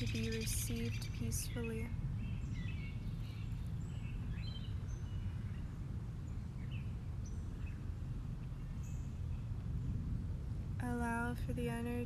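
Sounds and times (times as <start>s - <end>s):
birds chirping: 0.0s - 10.0s
low outdoor rumble: 0.0s - 12.0s.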